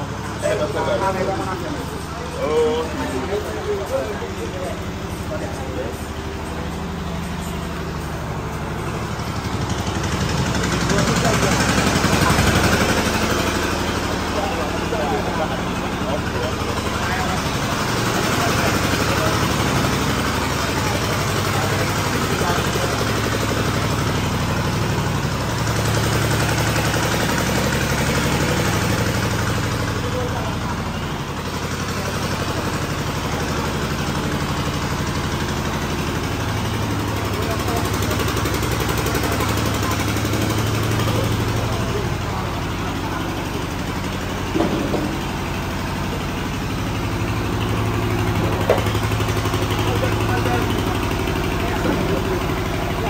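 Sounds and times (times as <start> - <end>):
engine-driven machine humming: 0.0 - 53.0.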